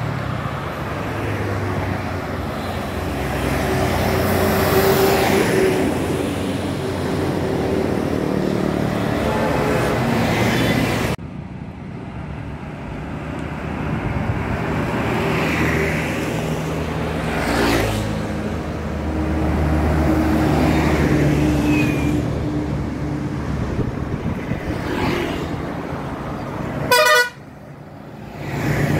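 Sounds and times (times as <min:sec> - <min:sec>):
buses passing: 0:00.0 - 0:28.9
traffic noise: 0:00.0 - 0:28.9.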